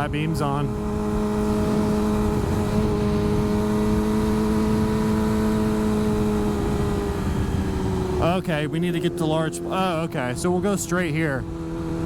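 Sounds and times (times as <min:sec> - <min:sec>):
motorcycle engine cruising: 0:00.0 - 0:12.0
road rumble: 0:00.0 - 0:12.0
wind: 0:00.0 - 0:12.0.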